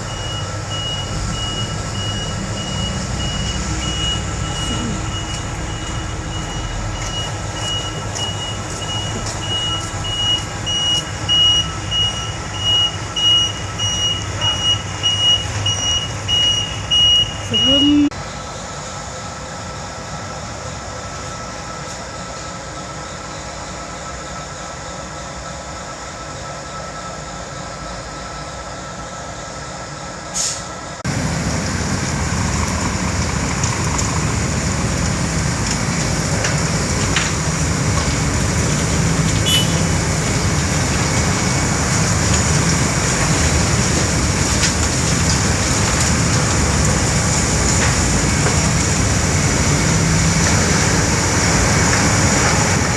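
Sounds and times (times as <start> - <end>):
heavy road-works machinery: 0.0 - 52.9.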